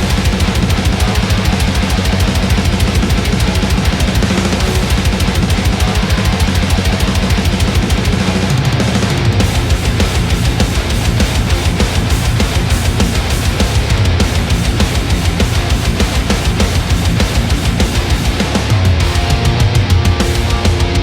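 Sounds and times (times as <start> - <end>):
heavy guitars: 0.0 - 21.0
rapid kick drum pattern: 0.0 - 21.0.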